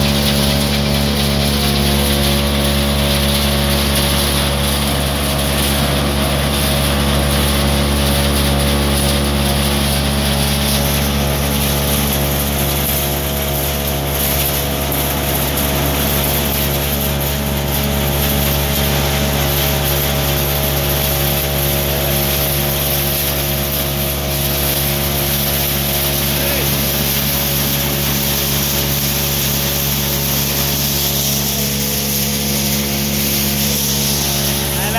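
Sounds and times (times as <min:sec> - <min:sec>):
shelling machine humming: 0:00.0 - 0:34.9.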